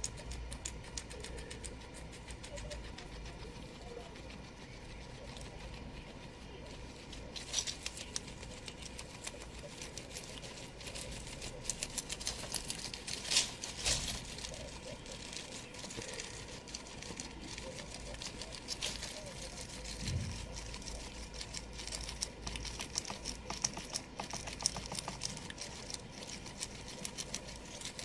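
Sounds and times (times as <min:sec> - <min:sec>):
guinea pig chewing leaves: 0:00.0 - 0:28.0.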